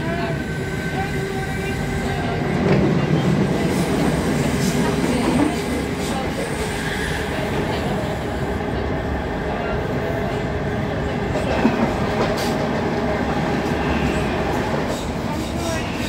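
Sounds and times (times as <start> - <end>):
train passing alongside: 0.0 - 16.0
train wheels rumbling on rails: 0.0 - 16.0.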